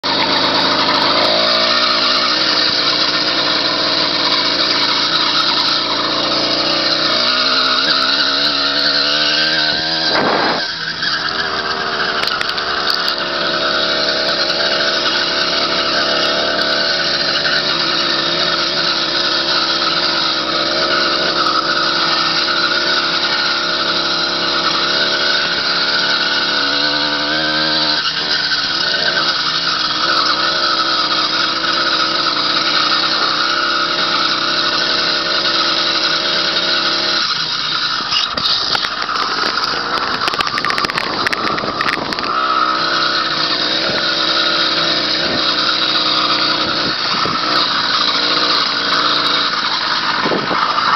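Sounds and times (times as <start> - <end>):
two-stroke engine running: 0.0 - 50.9.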